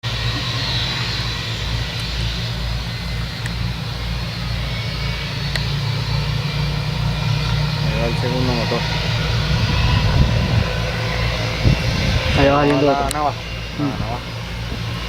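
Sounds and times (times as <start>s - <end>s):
jet engines humming with whine: 0.0s - 15.0s.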